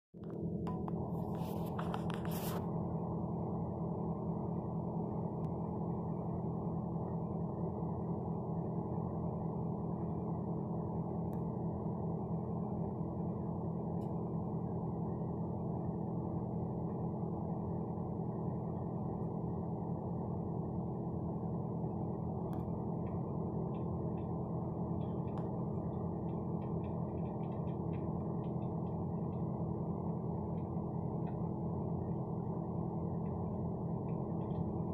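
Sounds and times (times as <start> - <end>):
vehicle engine and road drone: 0.1 - 34.9.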